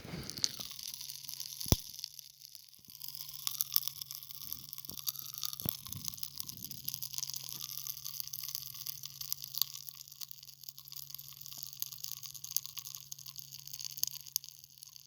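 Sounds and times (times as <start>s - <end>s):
popping candy crackling in mouth: 0.0s - 15.0s.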